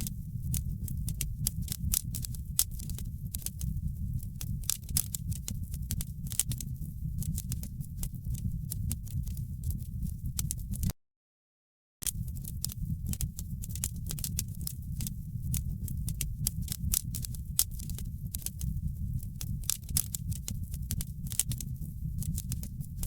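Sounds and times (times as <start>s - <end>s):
fireplace fire crackling: 0.0s - 10.9s, 12.0s - 23.0s
steady low rumble: 0.0s - 10.9s, 12.0s - 23.0s.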